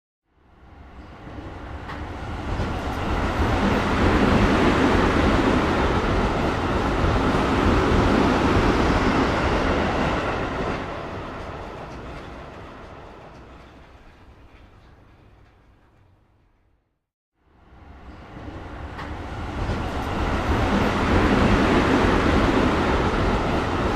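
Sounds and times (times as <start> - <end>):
metro train rumbling past: 0.5 - 16.4, 17.5 - 23.9.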